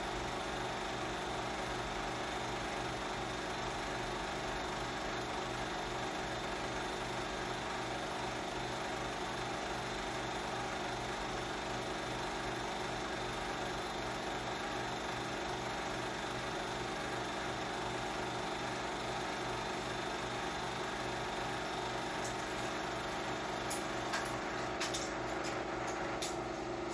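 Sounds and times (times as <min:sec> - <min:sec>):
film projector whirring: 0:00.0 - 0:26.9.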